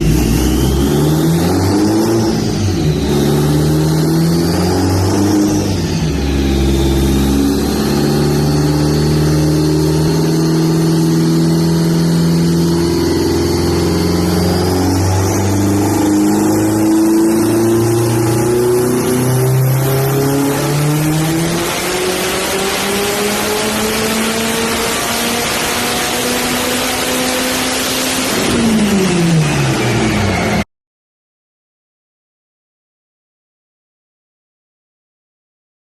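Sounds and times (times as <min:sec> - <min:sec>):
turbocharged car engine revving: 0:00.0 - 0:30.6.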